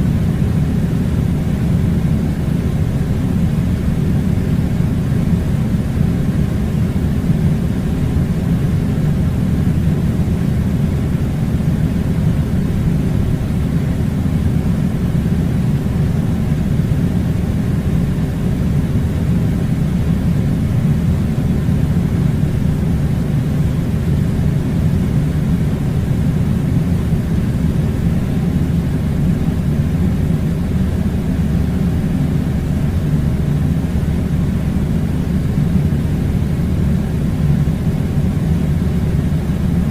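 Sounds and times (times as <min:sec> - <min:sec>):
air conditioning low rumble: 0:00.0 - 0:39.9.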